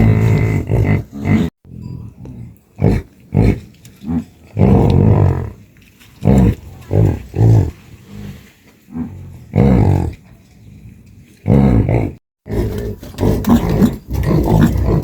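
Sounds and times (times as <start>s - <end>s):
cattle mooing and grunting: 0.0s - 5.6s, 6.2s - 10.2s, 10.8s - 15.0s.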